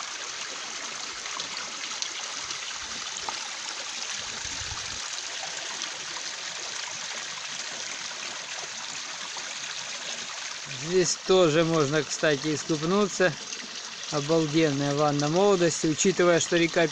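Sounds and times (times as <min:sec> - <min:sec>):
stream trickling over stones: 0:00.0 - 0:16.9.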